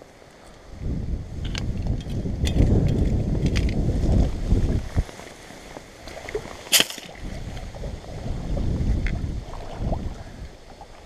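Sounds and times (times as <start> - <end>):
wind buffeting microphone: 0.6 - 11.0.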